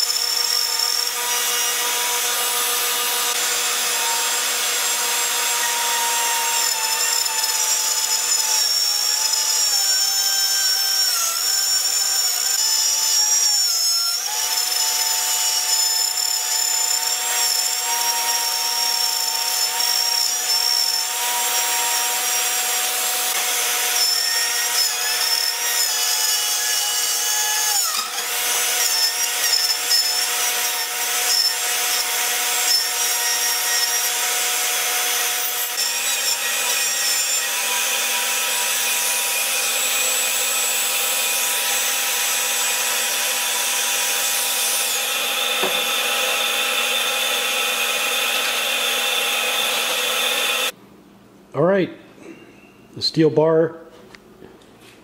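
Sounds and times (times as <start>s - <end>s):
router whining through wood: 0.0s - 50.8s.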